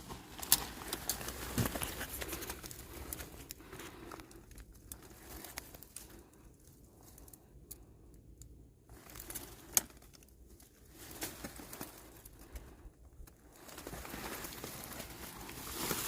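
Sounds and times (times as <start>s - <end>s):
rustling and crinkling of dry leaves: 0.0s - 16.0s.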